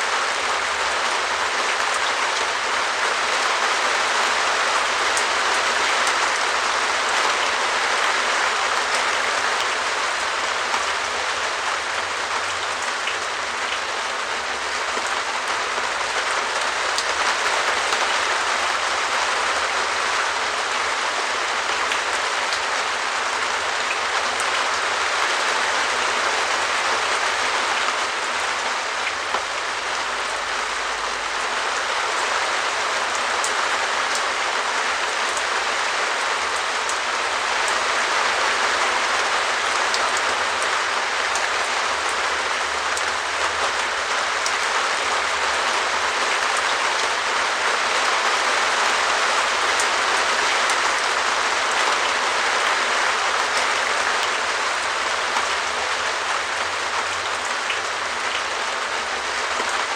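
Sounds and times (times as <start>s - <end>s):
rain on a plastic roof: 0.0s - 59.9s.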